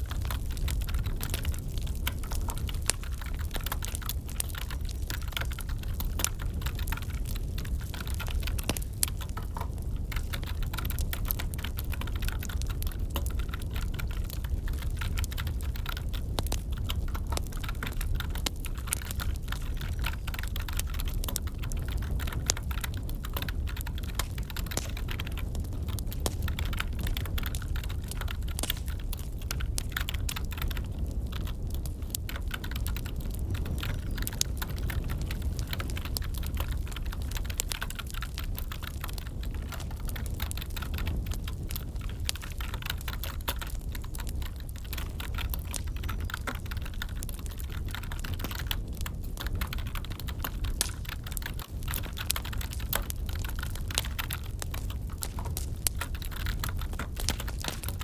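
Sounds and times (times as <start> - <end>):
typing on keyboard: 0.0 - 58.0
wood fire crackling: 0.0 - 58.0.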